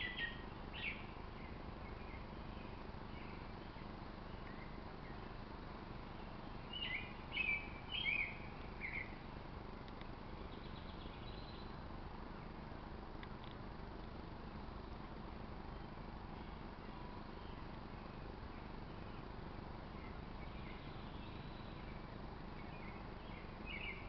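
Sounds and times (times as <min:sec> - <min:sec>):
small bird chirping: 0:00.0 - 0:09.3, 0:09.9 - 0:12.6, 0:15.6 - 0:24.0
steady background noise: 0:00.0 - 0:24.0.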